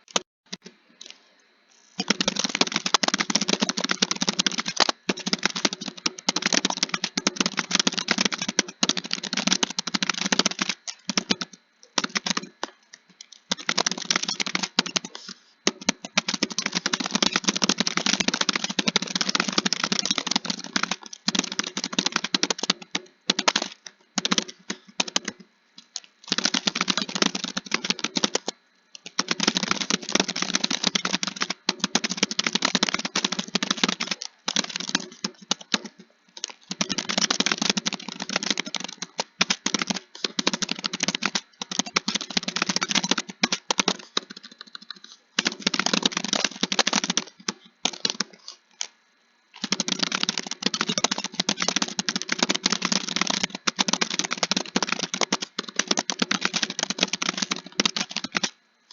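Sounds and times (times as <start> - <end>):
fast typing on a keyboard: 2.0 - 48.9, 49.5 - 58.9.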